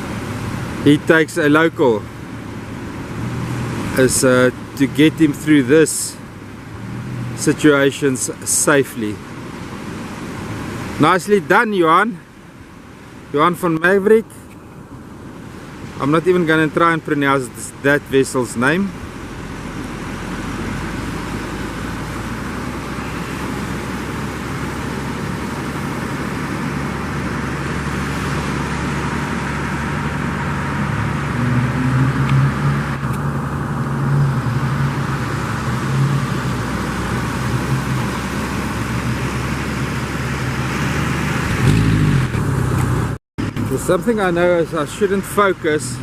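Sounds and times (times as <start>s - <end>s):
engine running steadily: 0.0s - 46.0s
surf rushing: 0.0s - 46.0s
wind: 0.0s - 46.0s.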